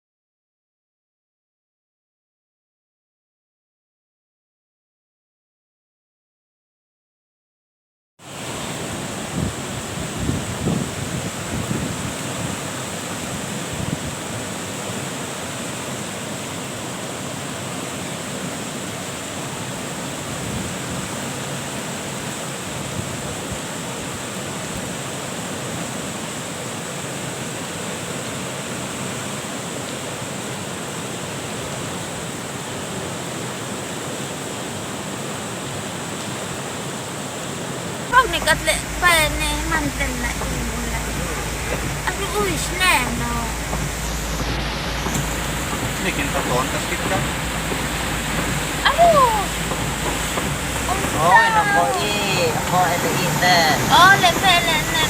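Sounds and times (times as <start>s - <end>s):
heavy rain: 8.2s - 55.0s
running water: 8.2s - 55.0s
strong wind: 8.2s - 55.0s.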